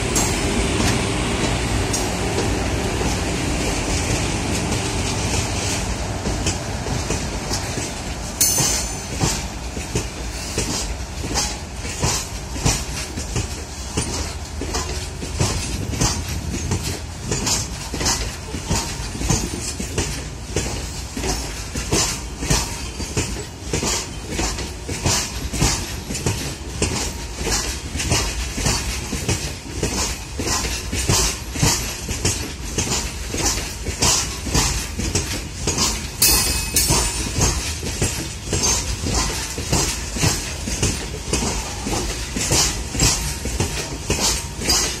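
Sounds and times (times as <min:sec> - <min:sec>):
electric locomotives passing: 0:00.0 - 0:45.0
train wheels clattering over track: 0:00.0 - 0:45.0.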